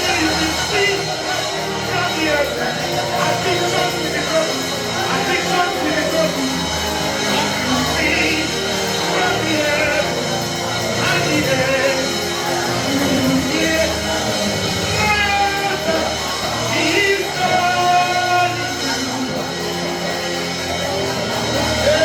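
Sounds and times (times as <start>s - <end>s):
person singing: 0.0s - 22.0s
sustained instrumental chords: 0.0s - 22.0s.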